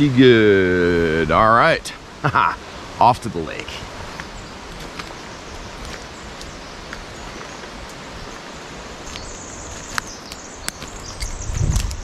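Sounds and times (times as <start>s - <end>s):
forest ambience hiss: 0.0s - 12.0s
high thin birdsong: 0.0s - 12.0s.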